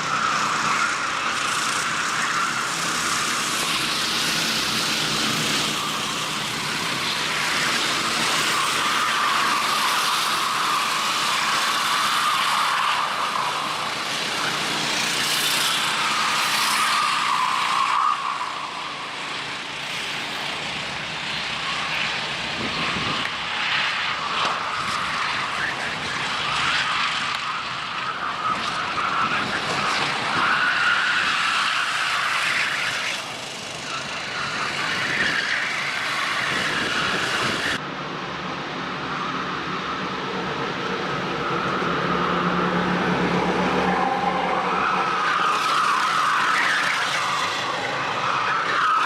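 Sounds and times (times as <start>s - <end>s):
kart engines at high revs: 0.0s - 37.9s, 38.9s - 49.0s.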